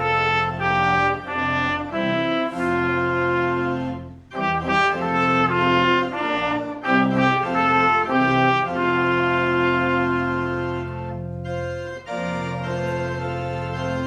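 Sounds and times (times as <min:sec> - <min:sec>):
instrumental church music: 0:00.0 - 0:14.0.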